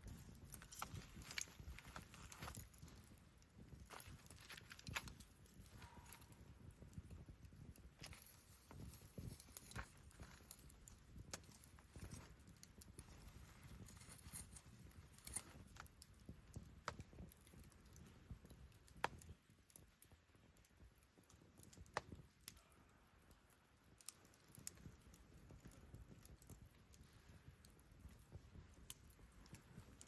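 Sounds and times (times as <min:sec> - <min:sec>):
campfire crackling and popping: 0:00.0 - 0:30.0
low rumble of burning: 0:00.0 - 0:30.0.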